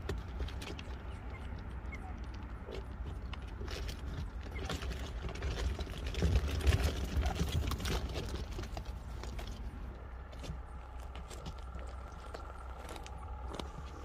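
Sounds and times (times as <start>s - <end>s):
animals scratching in plastic tunnels: 0.0s - 14.0s.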